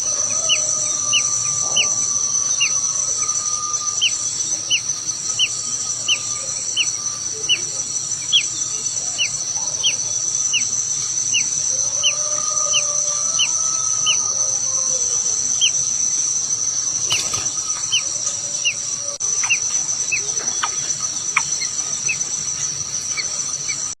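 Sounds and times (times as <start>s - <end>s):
bird chirping: 0.0s - 24.0s
insects droning: 0.0s - 24.0s.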